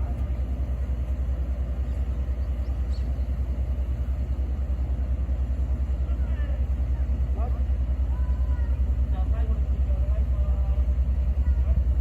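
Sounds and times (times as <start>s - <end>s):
low pulsing mechanical rumble: 0.0s - 12.0s.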